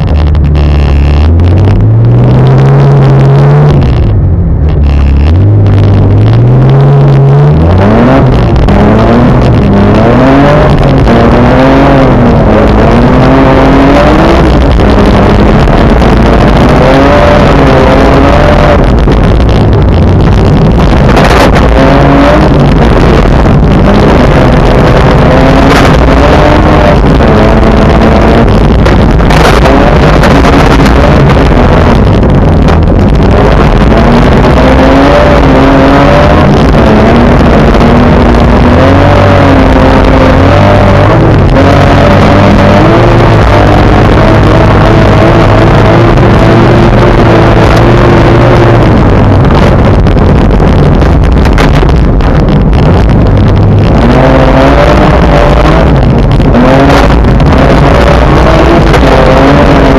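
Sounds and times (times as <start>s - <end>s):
car engine accelerating: 0.0s - 59.9s
loud rushing noise: 0.0s - 59.9s.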